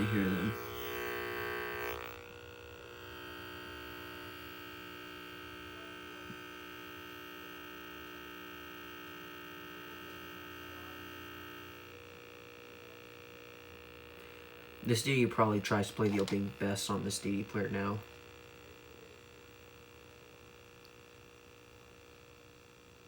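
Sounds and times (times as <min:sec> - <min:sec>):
electrical hum: 0:00.0 - 0:23.0
high speaker whine: 0:00.0 - 0:23.0.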